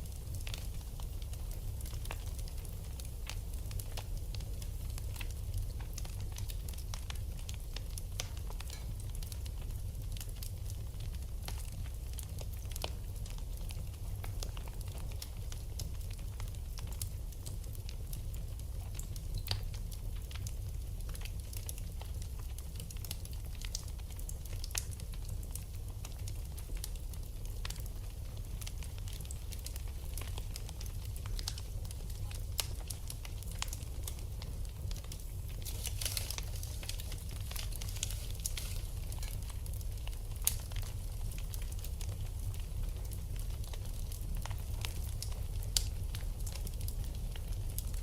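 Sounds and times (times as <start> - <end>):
low fire rumble: 0.0 - 48.0
wood fire crackling and popping: 0.0 - 48.0.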